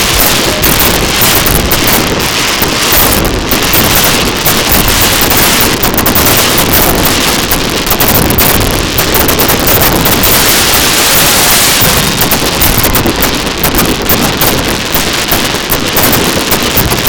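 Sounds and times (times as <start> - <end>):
fireworks barrage bangs and crackles: 0.0 - 17.0.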